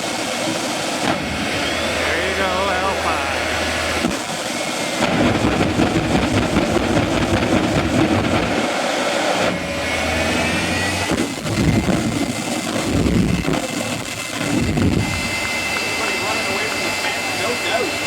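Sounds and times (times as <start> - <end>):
high engine whine: 0.0 - 18.0
jet engines running: 0.0 - 18.0.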